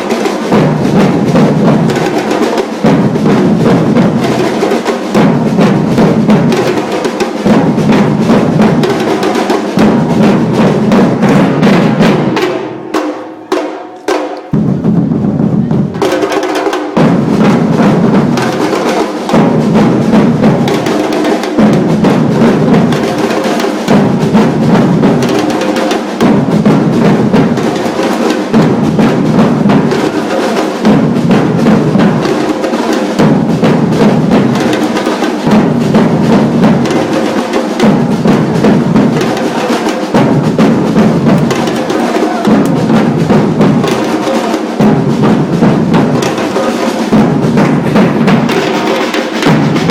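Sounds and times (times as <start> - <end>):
bass drums: 0.0 - 13.0, 14.5 - 16.2, 16.9 - 25.6, 26.2 - 32.5, 33.2 - 49.9
sharp higher drum strikes: 0.0 - 49.9.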